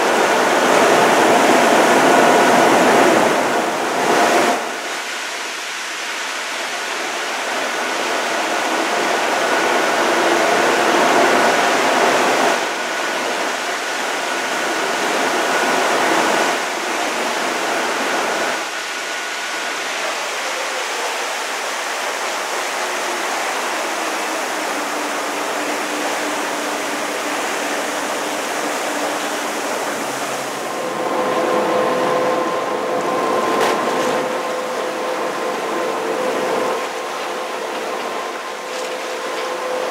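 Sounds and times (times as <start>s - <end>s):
faint boat engine hum: 0.0s - 39.9s
water and wind rushing: 0.0s - 39.9s.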